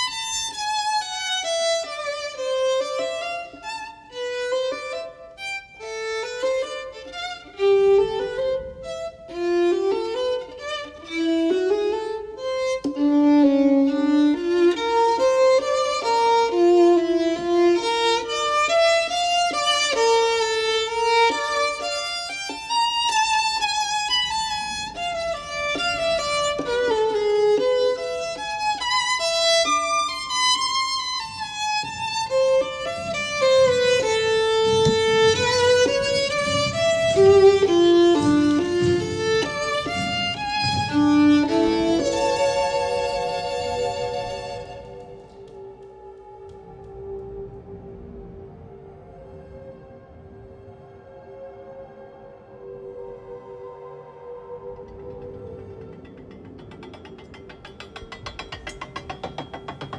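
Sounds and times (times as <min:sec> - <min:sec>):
solo violin melody: 0:00.0 - 0:48.7.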